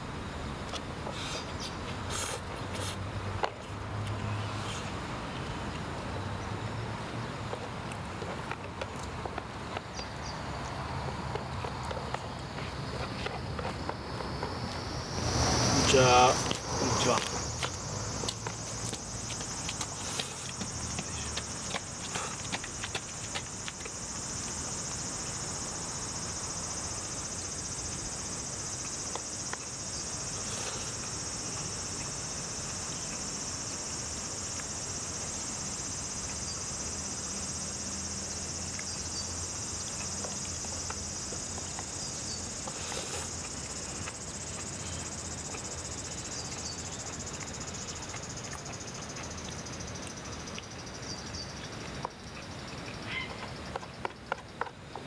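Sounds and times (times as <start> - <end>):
high-pitched insect chorus: 9.9 - 54.6.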